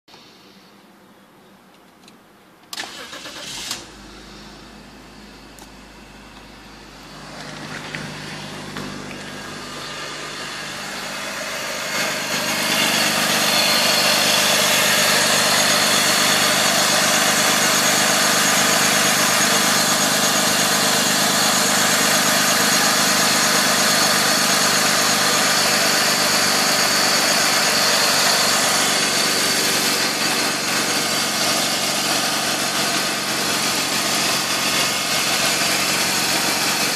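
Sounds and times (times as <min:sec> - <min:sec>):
car engine starting and idling: 0:02.6 - 0:36.9.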